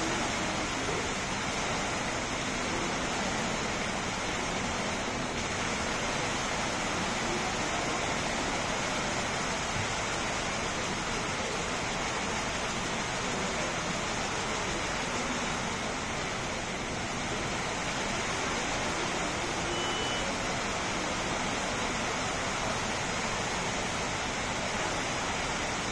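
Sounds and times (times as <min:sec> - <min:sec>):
waterfall splashing into basin: 0:00.0 - 0:25.9.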